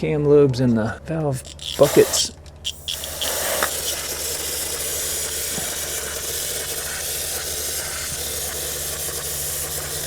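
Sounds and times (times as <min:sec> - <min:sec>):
aerosol can spraying hiss: 0:01.4 - 0:10.0.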